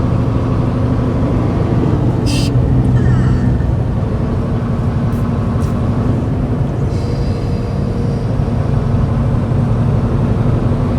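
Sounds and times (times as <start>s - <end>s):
road noise: 0.0s - 10.9s
truck engine drone: 0.0s - 10.9s.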